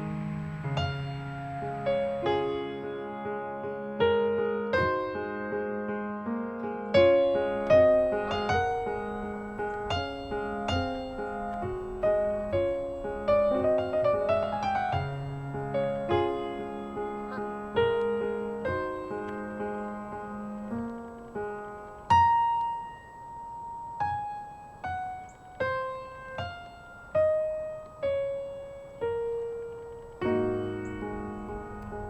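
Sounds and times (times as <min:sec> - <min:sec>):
slow solo piano melody: 0:00.0 - 0:32.0.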